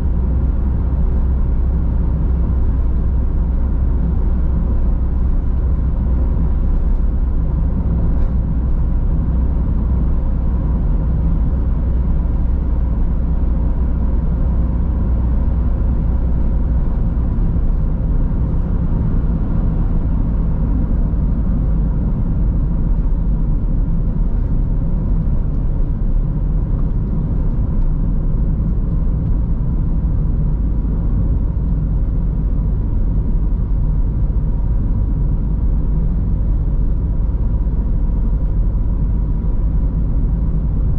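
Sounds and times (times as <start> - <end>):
car road noise rumble: 0.0 - 40.9.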